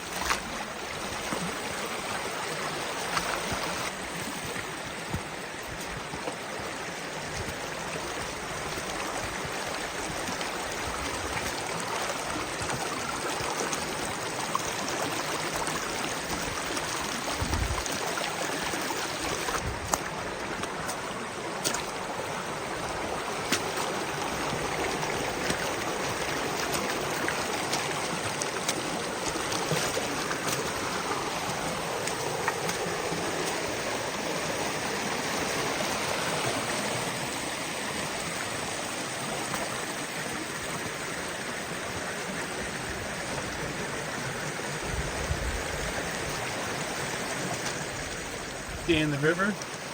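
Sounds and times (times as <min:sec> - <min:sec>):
water rushing over rocks: 0:00.0 - 0:49.9.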